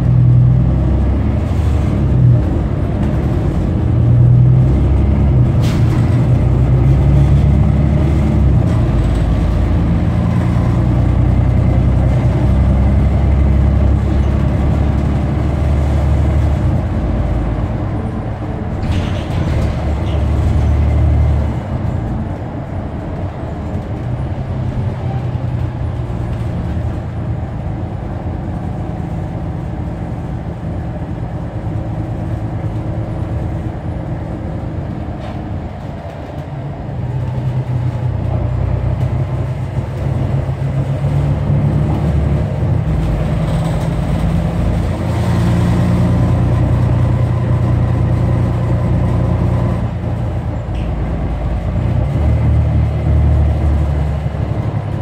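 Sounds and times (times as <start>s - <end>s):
bus engine humming: 0.0s - 55.0s.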